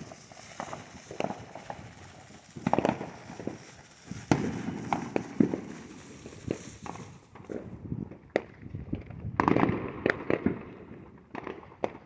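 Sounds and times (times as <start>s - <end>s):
fireworks bangs and crackling pops: 0.0s - 12.0s.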